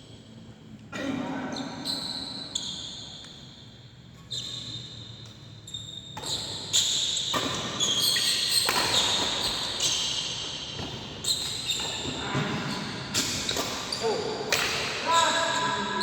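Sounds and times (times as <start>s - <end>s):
court shoes squeaking: 1.5s - 16.0s.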